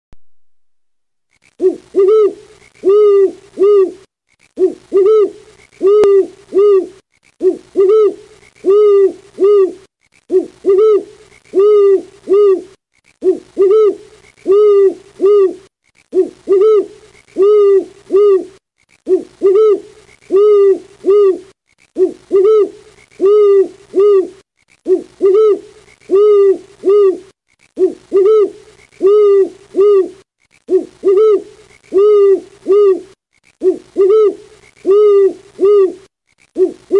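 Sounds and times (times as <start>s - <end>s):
owl hooting: 1.6s - 36.9s.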